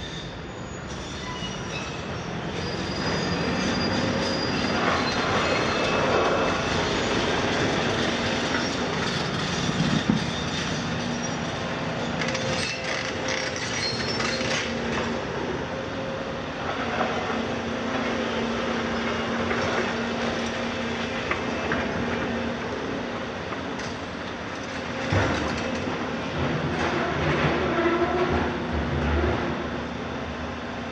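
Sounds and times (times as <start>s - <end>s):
excavator engines and hydraulics humming: 0.0s - 30.9s.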